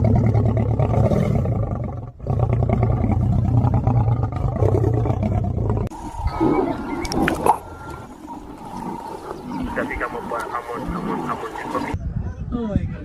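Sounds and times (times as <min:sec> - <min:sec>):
big cat growling and roaring: 0:00.0 - 0:12.0.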